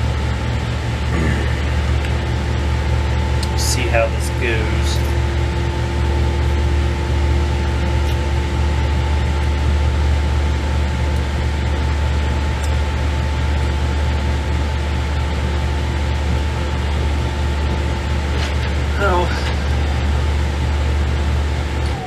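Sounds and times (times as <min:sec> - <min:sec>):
air conditioner humming: 0:00.0 - 0:22.0.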